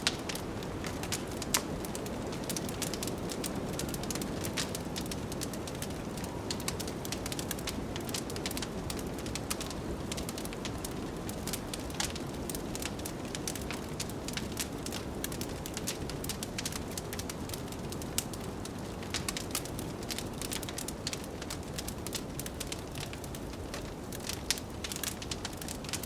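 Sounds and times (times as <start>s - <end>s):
low rush of wind: 0.0s - 25.9s
wood fire crackling and popping: 0.0s - 26.0s.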